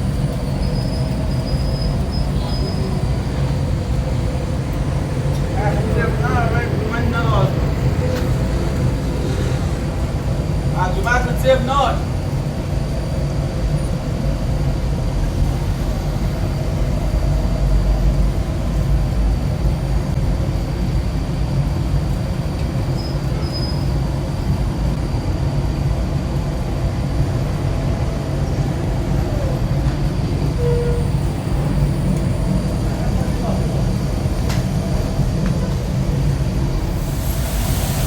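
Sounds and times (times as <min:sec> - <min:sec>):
road noise: 0:00.0 - 0:38.0.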